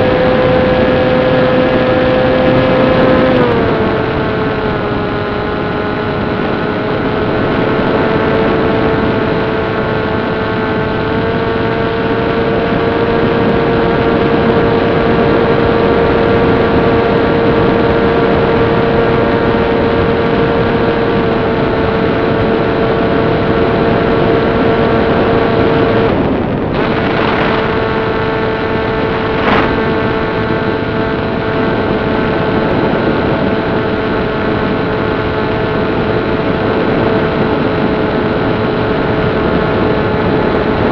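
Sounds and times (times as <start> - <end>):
electric motor propeller hum: 0.0 - 40.9.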